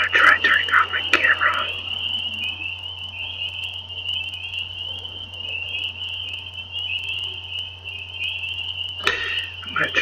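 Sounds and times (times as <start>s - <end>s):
chorus of frogs calling: 0.0s - 10.0s.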